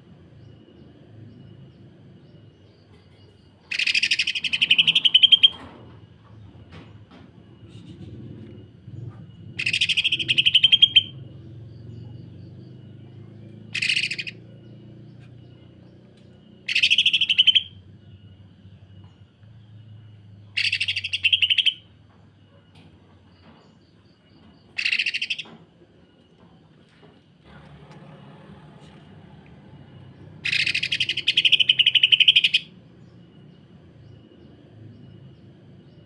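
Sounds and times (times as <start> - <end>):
bird rapid rattling song: 2.7 - 19.0, 19.8 - 26.2, 29.7 - 36.0.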